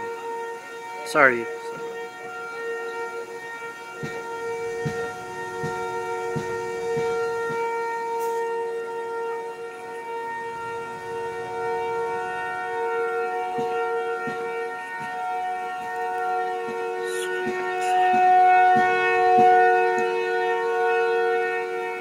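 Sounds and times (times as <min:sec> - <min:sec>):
warning siren wailing: 0:00.0 - 0:22.0.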